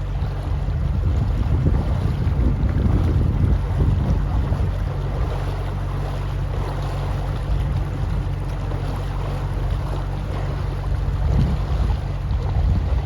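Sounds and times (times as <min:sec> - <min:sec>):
boat engine droning: 0:00.0 - 0:13.0
wind noise on microphone: 0:00.0 - 0:13.0.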